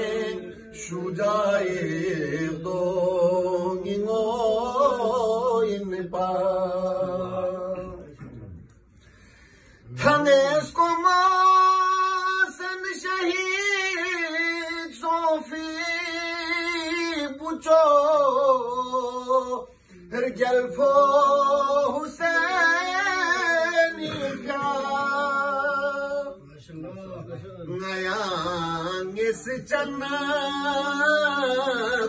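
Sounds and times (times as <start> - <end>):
man singing unaccompanied: 0.0 - 8.2, 9.9 - 32.0.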